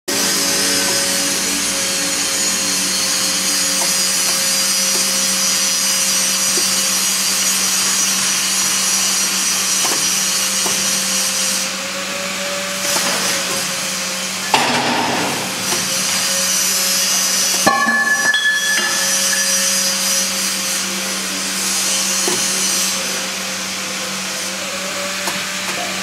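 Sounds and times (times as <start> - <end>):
industrial machine drone: 0.1 - 26.0.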